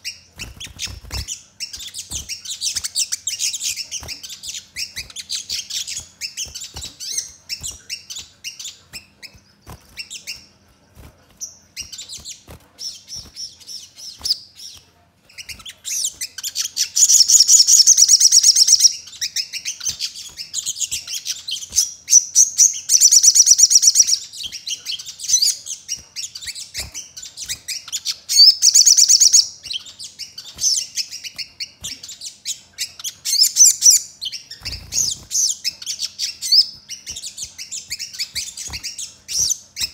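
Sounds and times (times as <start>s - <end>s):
bird chirping trills: 0.0s - 39.9s.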